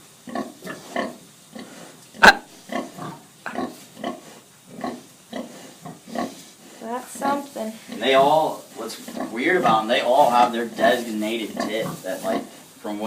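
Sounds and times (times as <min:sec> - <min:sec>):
sow grunting: 0:00.3 - 0:12.6.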